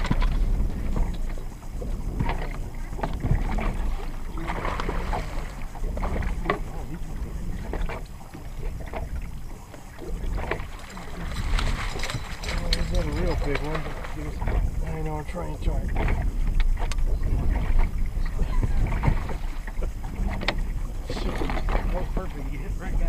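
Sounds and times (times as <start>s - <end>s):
knocks on boat: 0.0s - 23.0s
water splashes: 0.0s - 23.0s
wind rumbling on microphone: 0.0s - 23.0s.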